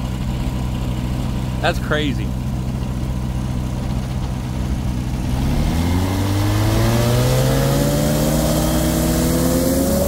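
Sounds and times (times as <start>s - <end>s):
propeller plane engine revving: 0.0s - 10.0s.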